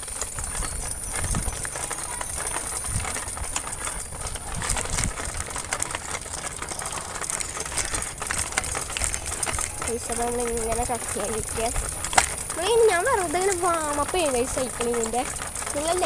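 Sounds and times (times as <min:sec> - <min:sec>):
bicycle rattling over rough ground: 0:00.0 - 0:16.0.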